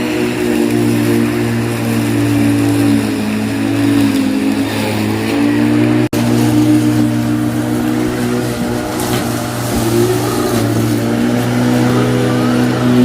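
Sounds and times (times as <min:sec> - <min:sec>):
lawn mower running: 0:00.0 - 0:13.0.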